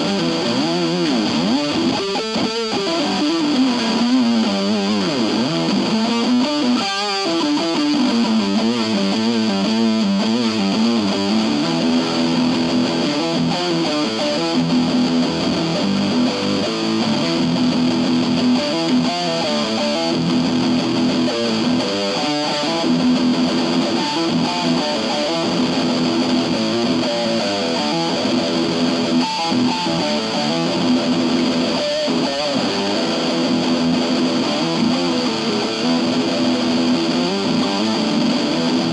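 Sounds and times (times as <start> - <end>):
warbling electric guitar notes: 0.0 - 38.9.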